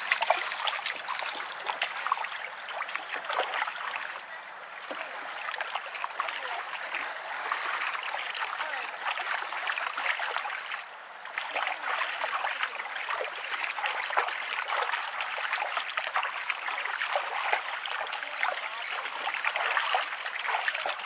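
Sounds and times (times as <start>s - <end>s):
lake water lapping and splashing: 0.0s - 21.0s.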